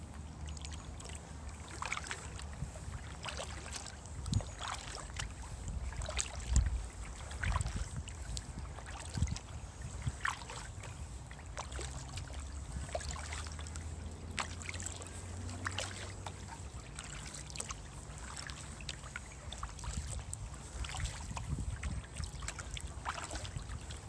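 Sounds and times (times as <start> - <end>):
kayak paddle strokes: 0.0 - 24.0
water dripping and trickling: 0.1 - 24.0.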